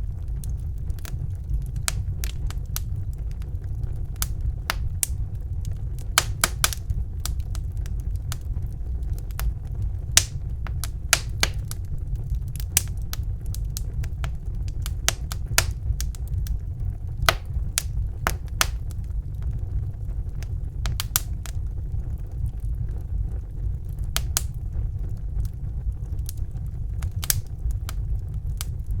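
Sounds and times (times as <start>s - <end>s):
steady low rumble: 0.0s - 29.0s
wood fire crackling: 0.0s - 29.0s.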